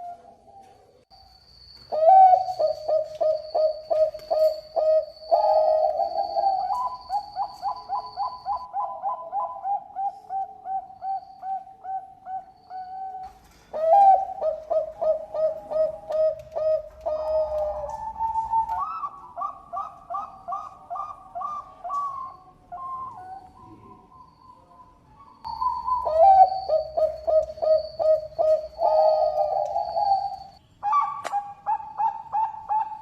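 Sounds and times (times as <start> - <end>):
dove cooing: 0.0 - 1.0, 1.9 - 33.0.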